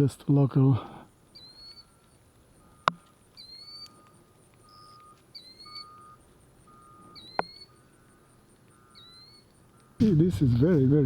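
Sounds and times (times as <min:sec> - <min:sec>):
bird chirping: 0:01.1 - 0:11.0.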